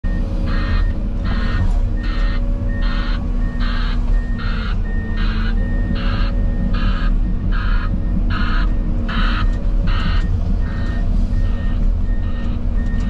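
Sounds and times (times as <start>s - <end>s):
diesel engine running: 0.0s - 13.0s
rasping reversing alarm: 0.1s - 13.0s.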